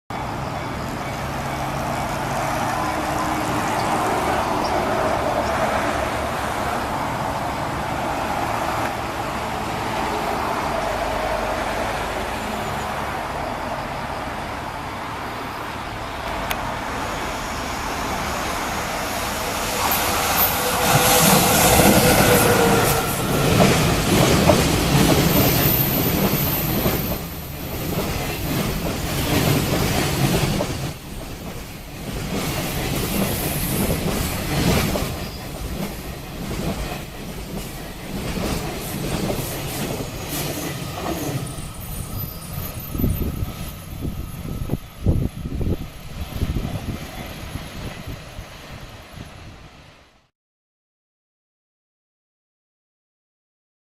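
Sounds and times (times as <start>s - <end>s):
electric locomotive whine: 0.1s - 50.0s.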